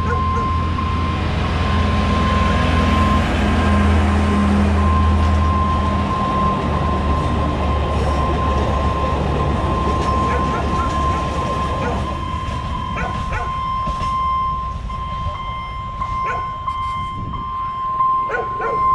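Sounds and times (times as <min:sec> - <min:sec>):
crossing signal warning tone: 0:00.0 - 0:18.9
diesel locomotive engine hum: 0:00.0 - 0:18.9
train coaches rumbling on rails: 0:00.0 - 0:18.9.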